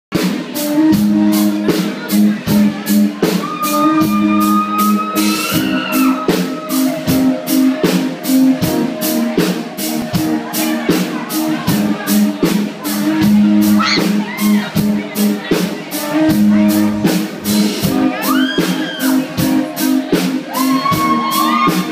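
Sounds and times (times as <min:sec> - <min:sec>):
drums steady beat: 0:00.1 - 0:21.9
guitar chords: 0:00.2 - 0:21.9.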